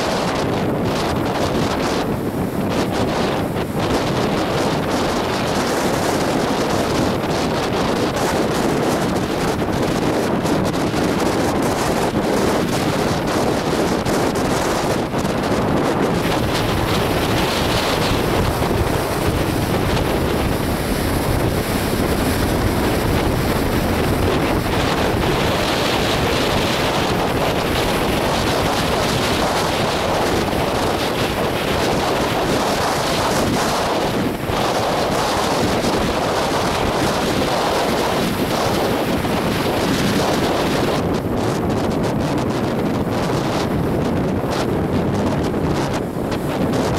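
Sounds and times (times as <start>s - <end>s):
waves breaking: 0.0s - 46.9s
wind buffeting microphone: 0.0s - 46.9s.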